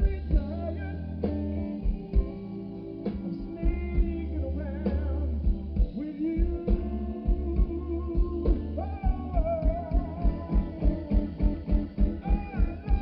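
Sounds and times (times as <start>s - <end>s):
electric guitar lines: 0.0s - 13.0s
steady kick drum beat: 0.0s - 13.0s.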